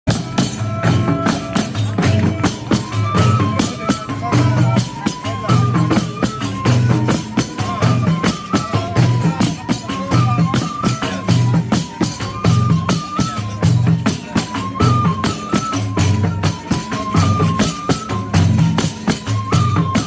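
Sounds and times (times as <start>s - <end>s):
hand percussion beat: 0.1s - 20.0s.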